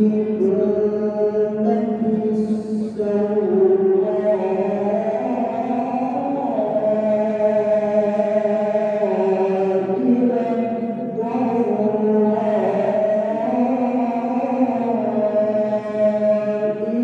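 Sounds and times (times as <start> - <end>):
man chanting recitation: 0.0 - 17.0.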